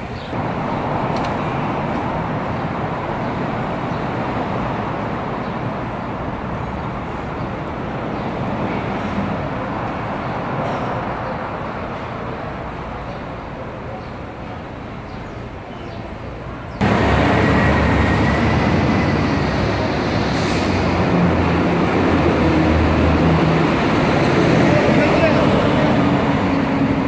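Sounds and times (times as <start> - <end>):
passing vehicles: 0.0 - 27.0.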